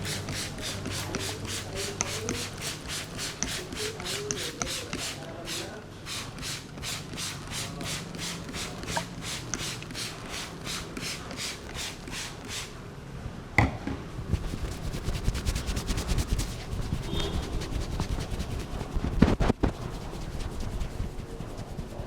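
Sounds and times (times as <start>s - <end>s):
hands rubbing hair and scalp: 0.0s - 12.7s, 14.3s - 22.0s
rapid patting on head: 0.0s - 12.7s, 14.3s - 22.0s.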